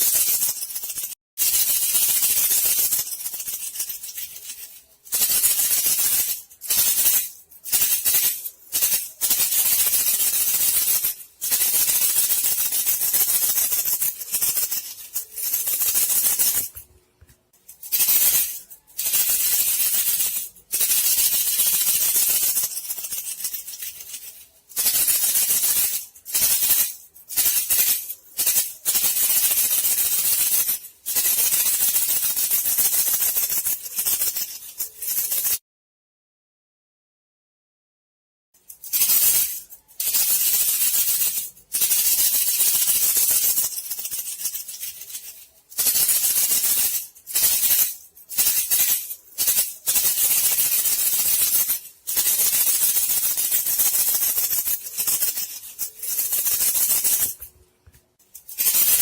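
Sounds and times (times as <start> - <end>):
bamboo rattle shaken: 0.0 - 17.0, 17.6 - 35.6, 38.6 - 59.0.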